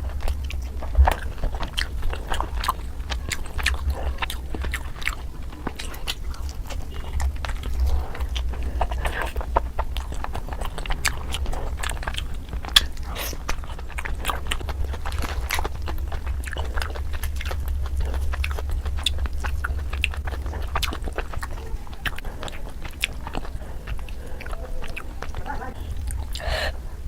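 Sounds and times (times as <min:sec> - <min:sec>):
biting and chewing food: 0:00.0 - 0:27.0.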